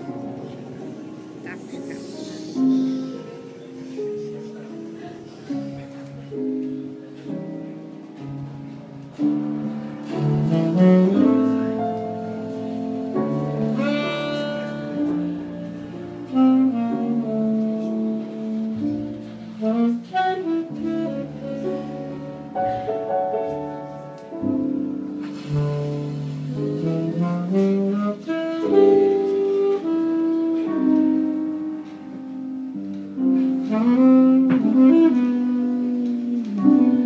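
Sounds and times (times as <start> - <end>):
jazz alto saxophone: 0.0 - 37.0
band accompanying: 5.2 - 37.0.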